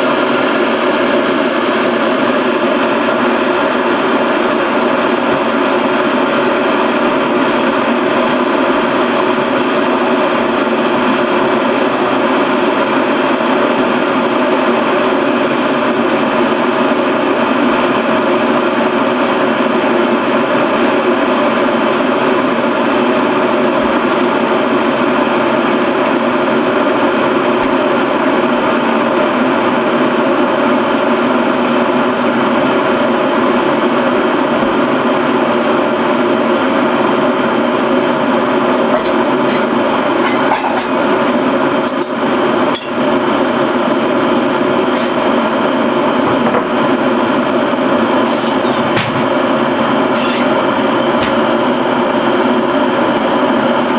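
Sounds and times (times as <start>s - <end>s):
electric kettle heating water: 0.0s - 53.9s.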